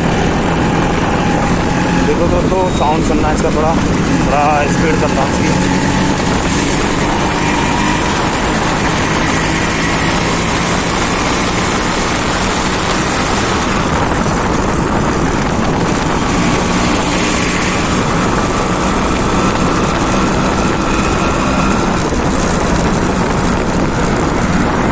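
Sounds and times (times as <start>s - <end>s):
highway traffic noise: 0.0s - 24.9s
motorcycle engine running: 0.0s - 24.9s
wind rush on microphone: 0.0s - 24.9s.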